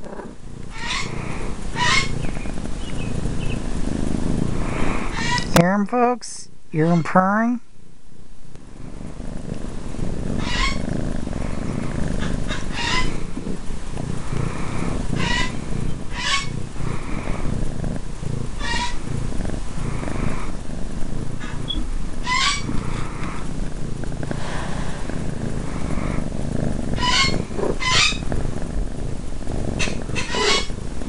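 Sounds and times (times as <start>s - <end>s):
kitten purring: 0.0s - 7.0s, 8.5s - 31.0s.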